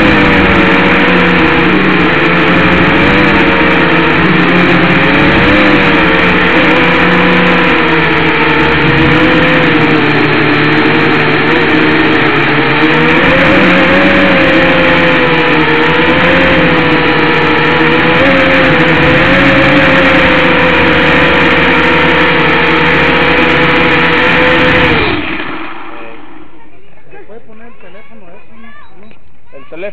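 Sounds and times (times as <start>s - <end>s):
drone motors whining: 0.0s - 26.8s.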